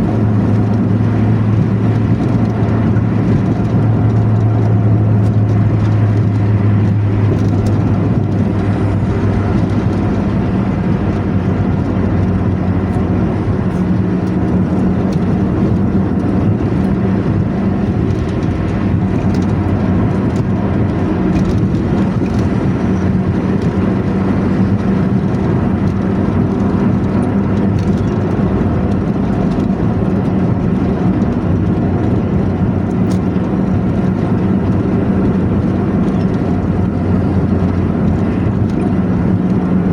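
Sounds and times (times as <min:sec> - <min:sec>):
bus diesel engine droning: 0:00.0 - 0:39.9
road noise: 0:00.0 - 0:39.9.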